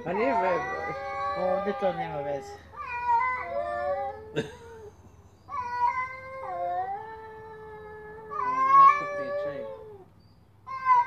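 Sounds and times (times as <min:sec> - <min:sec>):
cats yowling: 0:00.0 - 0:11.0.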